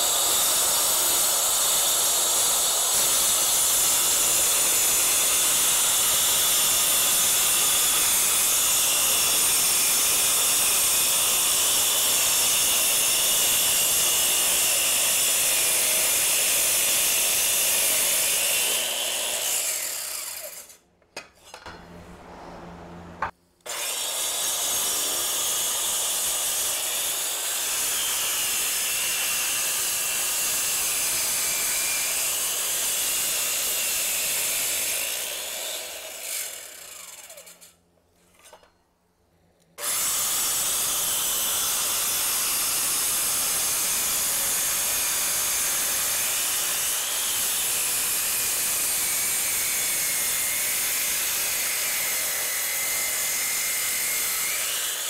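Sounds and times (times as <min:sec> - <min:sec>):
circular saw cutting concrete: 0:00.0 - 0:20.8, 0:22.2 - 0:38.5, 0:39.8 - 0:55.0.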